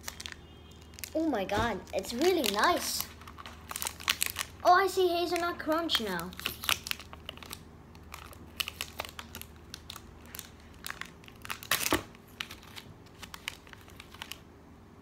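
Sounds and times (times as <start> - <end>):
wrapper crinkling and crackling: 0.0 - 14.5.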